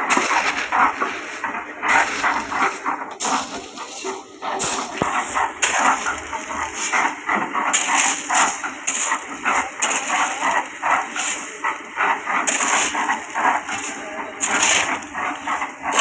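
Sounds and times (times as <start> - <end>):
hand tool scraping and knocking: 0.0 - 16.0.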